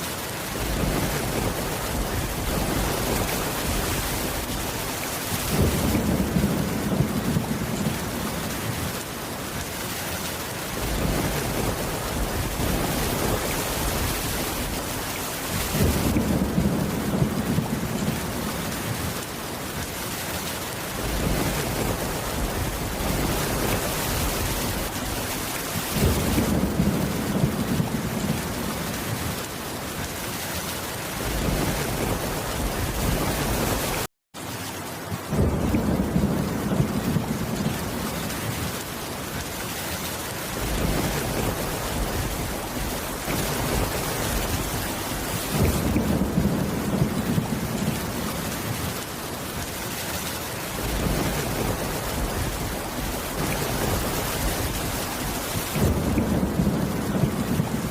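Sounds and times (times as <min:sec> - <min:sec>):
steady rain: 0:00.0 - 0:57.9
low thunder rumbling: 0:00.6 - 0:09.0, 0:10.7 - 0:19.2, 0:20.9 - 0:29.4, 0:31.2 - 0:34.1, 0:35.1 - 0:38.9, 0:40.5 - 0:49.8, 0:50.6 - 0:57.9.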